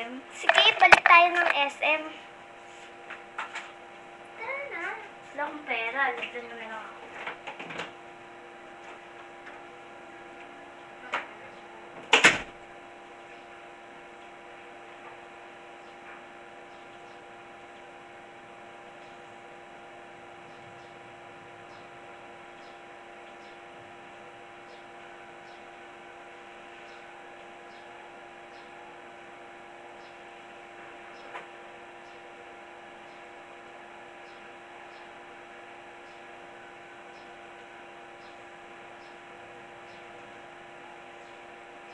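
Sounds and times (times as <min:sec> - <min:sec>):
steady electrical hum: 0:00.0 - 0:41.9.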